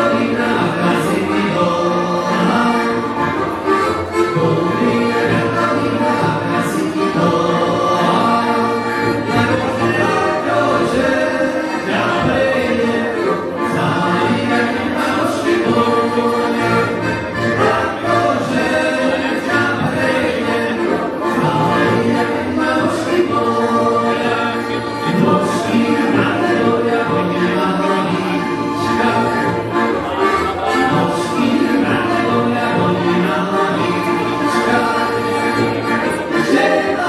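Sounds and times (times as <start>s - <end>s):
men singing together: 0.0s - 3.3s, 4.3s - 29.8s, 30.7s - 37.0s
live band playing amplified music: 0.0s - 37.0s.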